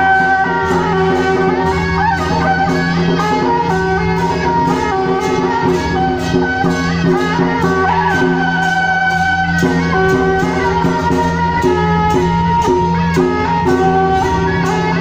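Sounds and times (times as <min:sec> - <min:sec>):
drum and cymbal beats: 0:00.0 - 0:15.0
reed horn melody: 0:00.0 - 0:15.0.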